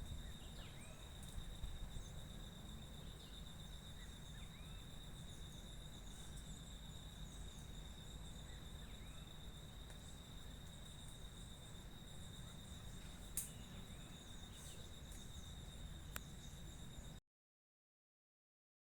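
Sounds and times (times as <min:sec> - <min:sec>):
crickets trilling: 0:00.0 - 0:17.2.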